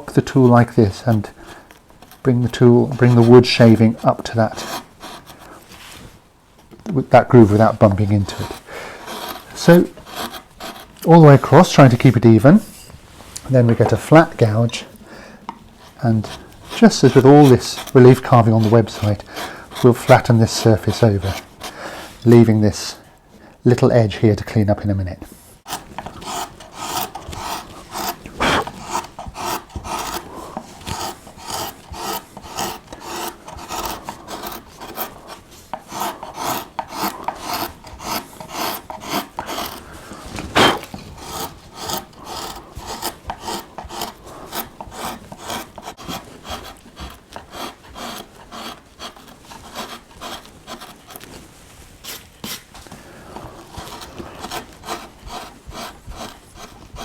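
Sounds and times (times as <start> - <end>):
gouge paring wood: 0.0 - 12.9, 13.6 - 22.8, 25.6 - 57.0.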